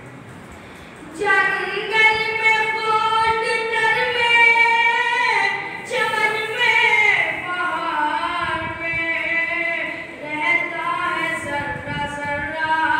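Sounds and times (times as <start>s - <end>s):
boy chanting into a microphone: 1.1s - 12.9s.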